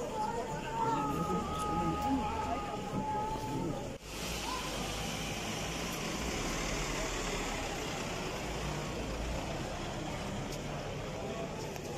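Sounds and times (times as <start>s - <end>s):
ambulance engine running: 0.0s - 11.6s
street noise: 0.0s - 11.9s.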